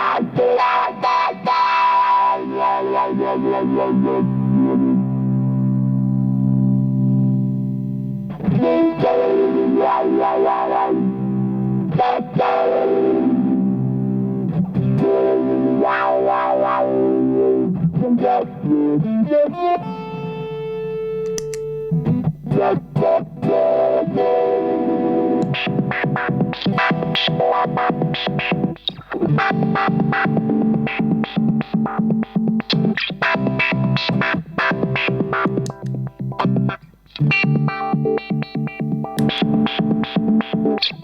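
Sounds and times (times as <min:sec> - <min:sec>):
distorted electric guitar: 0:00.0 - 0:41.0.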